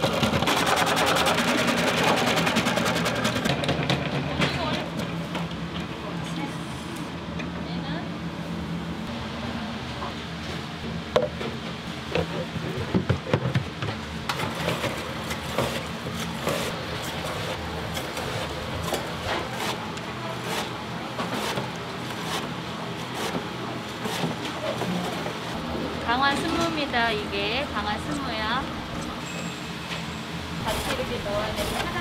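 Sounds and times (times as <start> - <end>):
kitchen machinery hum: 0.0 - 32.0.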